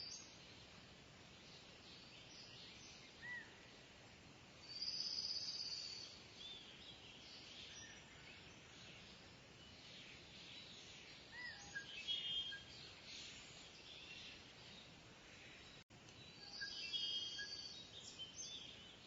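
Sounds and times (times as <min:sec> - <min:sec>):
birds chirping: 0:00.0 - 0:03.9, 0:04.6 - 0:19.0
outdoor background hiss: 0:00.0 - 0:19.0.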